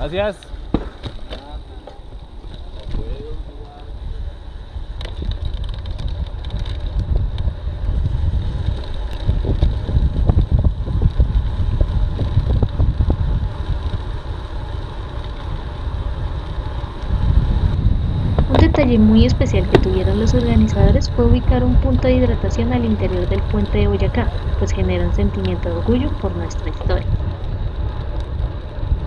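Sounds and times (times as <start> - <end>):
wind buffeting microphone: 2.0 - 29.0.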